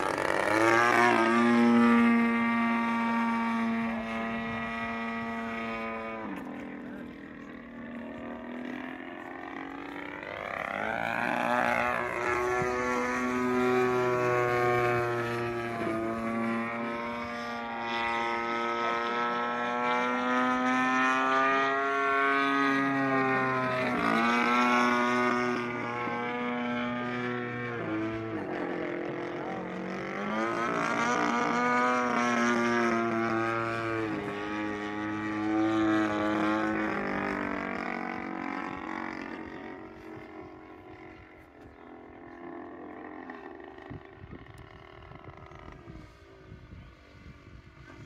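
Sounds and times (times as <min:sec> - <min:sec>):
model airplane engine and propeller: 0:00.0 - 0:48.0.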